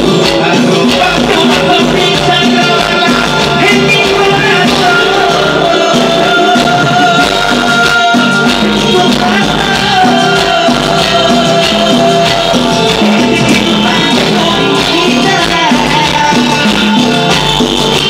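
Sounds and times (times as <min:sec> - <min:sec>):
live latin band music: 0:00.0 - 0:18.0
person singing into microphone: 0:00.0 - 0:18.0.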